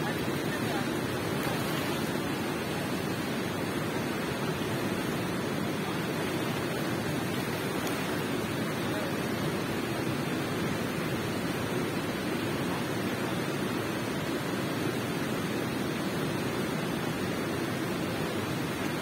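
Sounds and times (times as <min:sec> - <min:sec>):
water rushing in a cave: 0:00.0 - 0:19.0.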